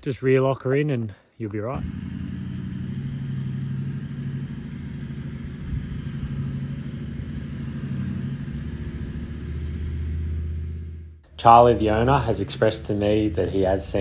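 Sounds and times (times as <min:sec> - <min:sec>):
engine running at low revs: 0:01.7 - 0:14.0.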